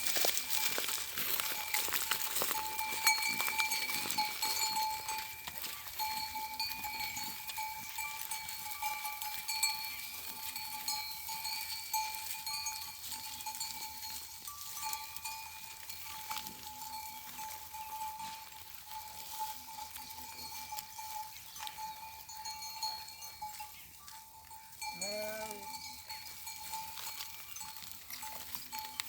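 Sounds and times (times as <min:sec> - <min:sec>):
livestock bells jingling: 0:00.0 - 0:29.0.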